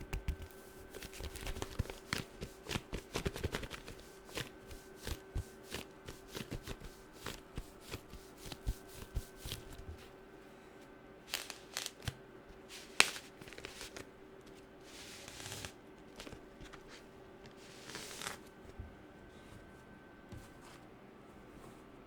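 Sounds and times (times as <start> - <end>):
soft scratching rustle: 0.3 - 10.2, 12.6 - 22.0.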